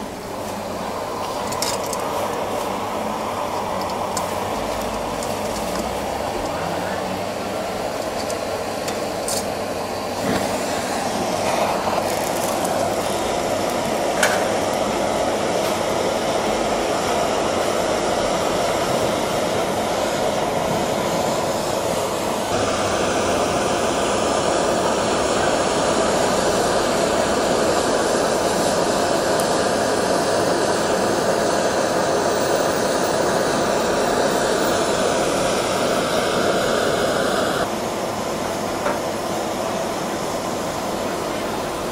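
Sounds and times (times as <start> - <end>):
gas torch flame hissing: 0.0 - 41.9.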